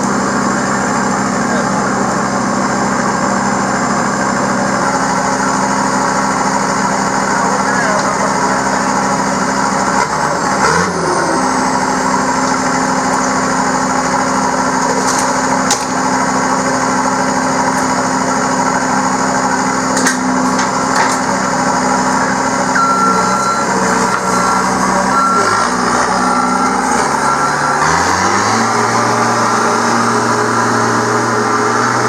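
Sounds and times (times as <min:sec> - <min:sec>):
skid steer engine idling: 0:00.0 - 0:32.0.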